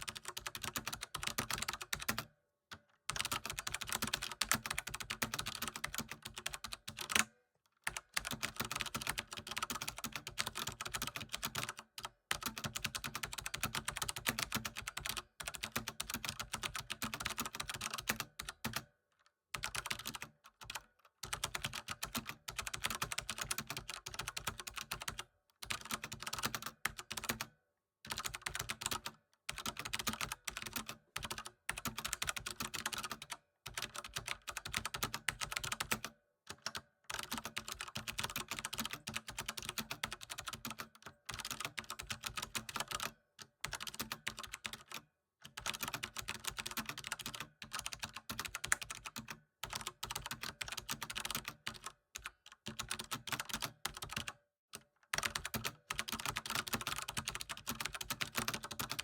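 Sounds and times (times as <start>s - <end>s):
rapid typing on keyboard: 0.0s - 2.3s, 3.1s - 18.9s, 19.5s - 27.5s, 28.1s - 59.0s.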